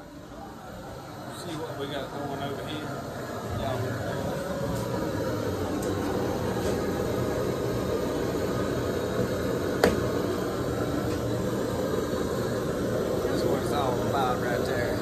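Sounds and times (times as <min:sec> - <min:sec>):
air conditioner running: 0:00.0 - 0:15.0.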